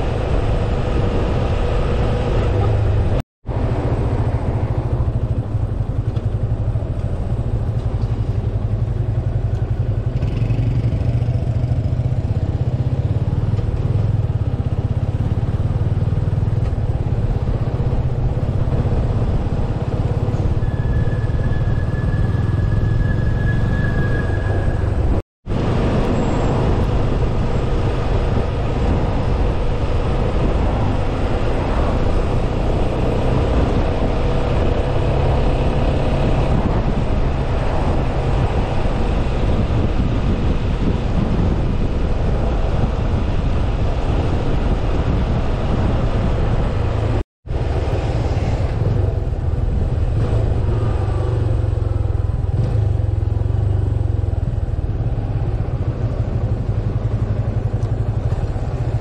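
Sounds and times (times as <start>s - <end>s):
wind rush and road noise: 0.0s - 59.0s.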